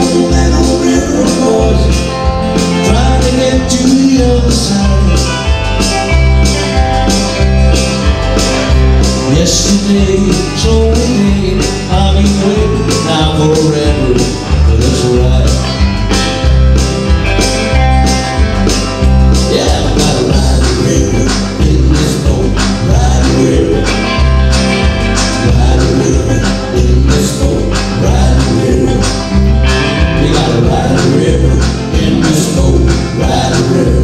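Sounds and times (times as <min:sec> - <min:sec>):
bass line: 0:00.0 - 0:34.0
country band playing: 0:00.0 - 0:34.0
electric guitars: 0:00.0 - 0:34.0.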